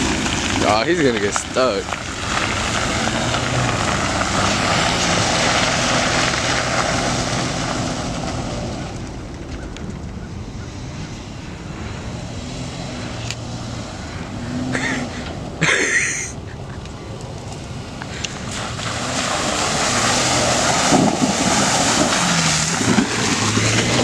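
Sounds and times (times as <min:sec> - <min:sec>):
distant engine revving in mud: 0:00.0 - 0:24.0.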